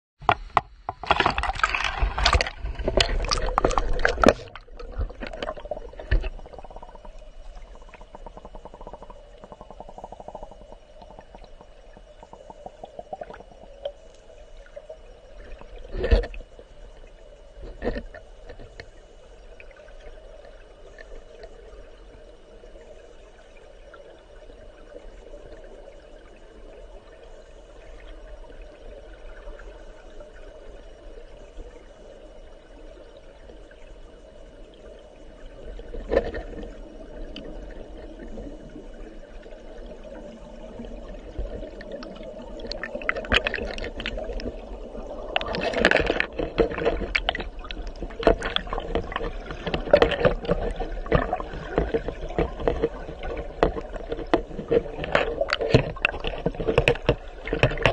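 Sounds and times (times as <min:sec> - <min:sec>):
muffled underwater water rush: 0:00.2 - 0:57.9.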